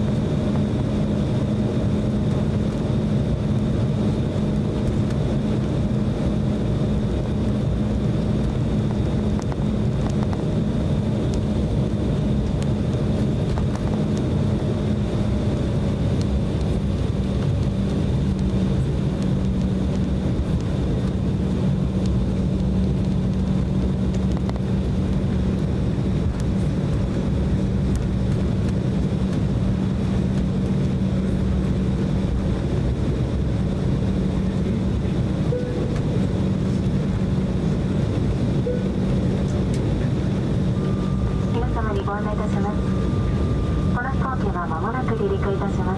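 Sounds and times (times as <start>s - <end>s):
jet engines humming and whining: 0.0s - 45.9s
low cabin rumble: 0.0s - 45.9s.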